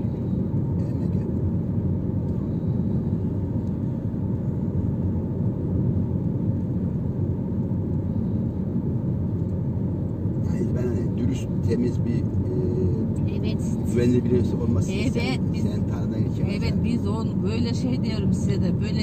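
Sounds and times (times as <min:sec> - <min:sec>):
bus rumbling inside cabin: 0:00.0 - 0:19.0.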